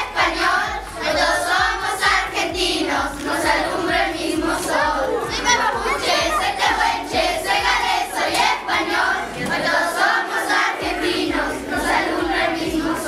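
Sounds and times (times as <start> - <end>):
background music with steady beat: 0.0 - 13.0
children singing and shouting: 0.0 - 13.0.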